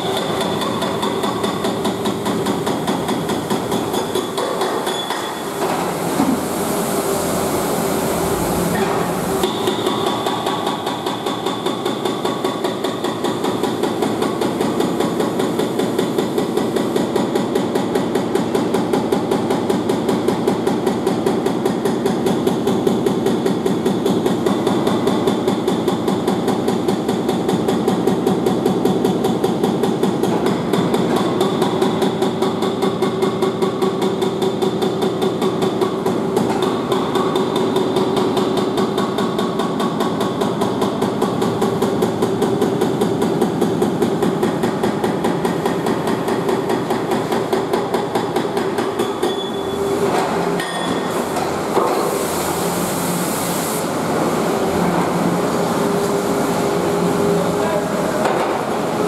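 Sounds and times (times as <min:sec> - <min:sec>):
hydraulic breaker hammering brick: 0:00.0 - 0:06.5, 0:08.7 - 0:52.1, 0:58.0 - 0:58.9.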